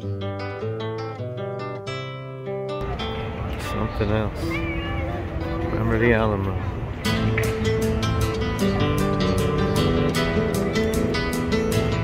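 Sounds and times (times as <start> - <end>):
plucked acoustic guitar melody: 0.0 - 12.0.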